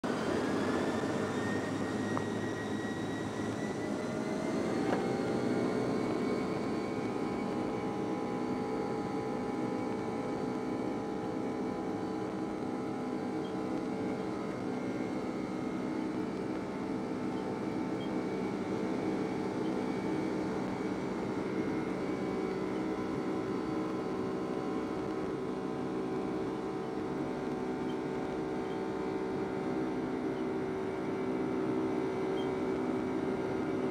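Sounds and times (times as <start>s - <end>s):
jet engines humming and whining: 0.0s - 33.9s.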